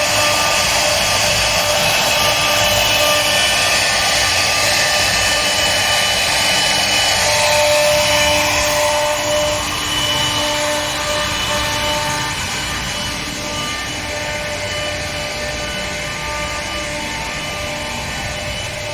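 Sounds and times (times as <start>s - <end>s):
servo motors whining: 0.0s - 18.9s
wood router cutting: 0.0s - 18.9s.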